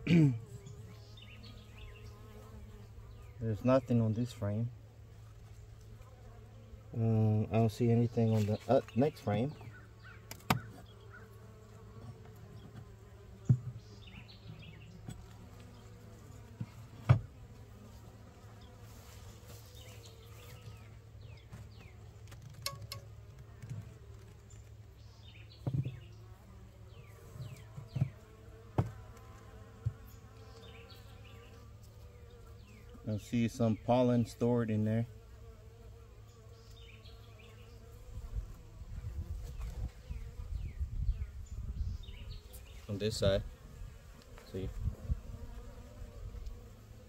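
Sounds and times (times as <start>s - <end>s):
honeybees buzzing: 0.0s - 47.0s.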